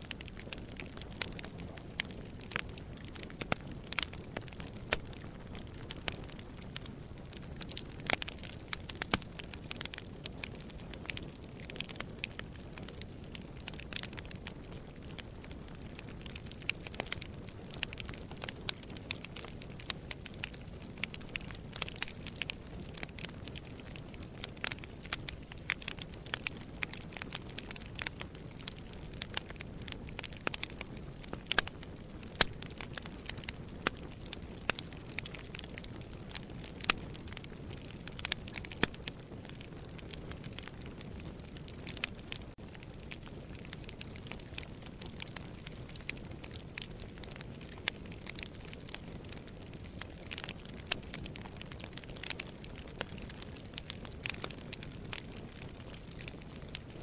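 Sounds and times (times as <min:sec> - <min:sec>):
fire flames rumbling: 0:00.0 - 0:57.0
logs crackling and popping: 0:00.0 - 0:57.0.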